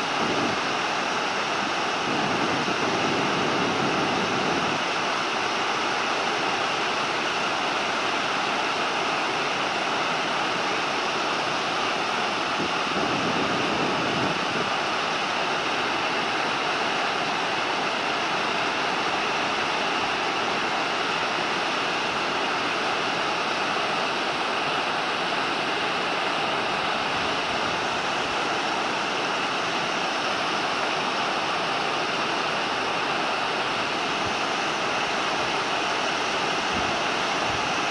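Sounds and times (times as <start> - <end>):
river water pouring over weir: 0.0 - 37.9.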